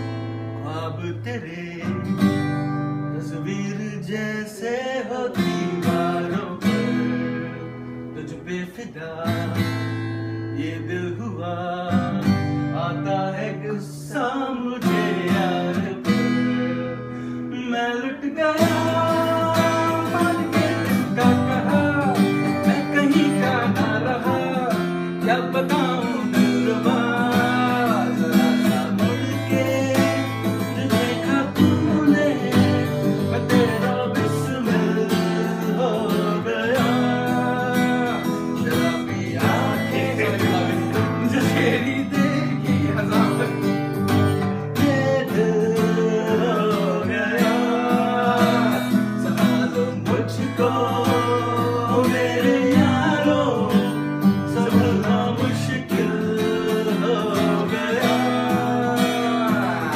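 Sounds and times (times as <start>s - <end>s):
acoustic guitar strumming: 0.0s - 59.9s
man singing: 0.0s - 59.9s.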